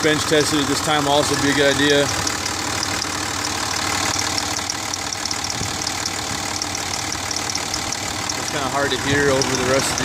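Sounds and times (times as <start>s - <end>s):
diesel engine idling: 0.0s - 10.0s
engine ticking: 0.0s - 10.0s.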